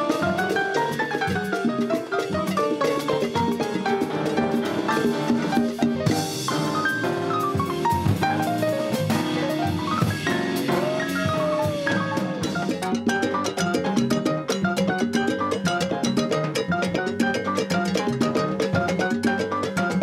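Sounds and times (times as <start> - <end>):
latin jazz band playing: 0.0 - 20.0.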